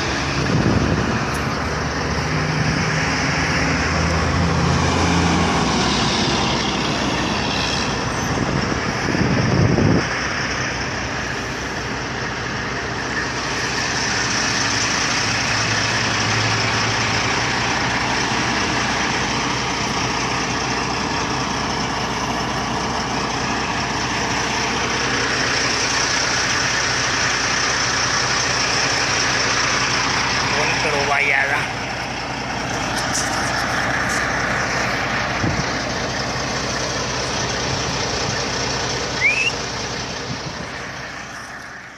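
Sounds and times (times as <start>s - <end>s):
trucks passing by: 0.0s - 41.9s.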